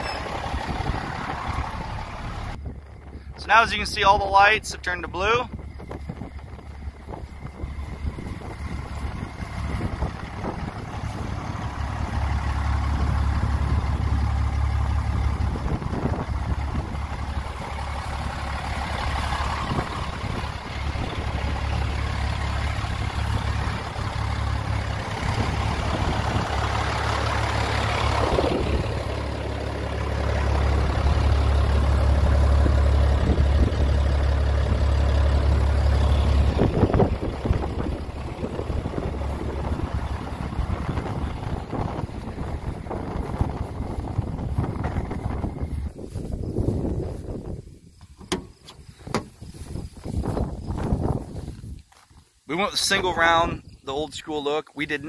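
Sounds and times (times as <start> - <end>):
wind buffeting microphone: 0.0 - 52.3.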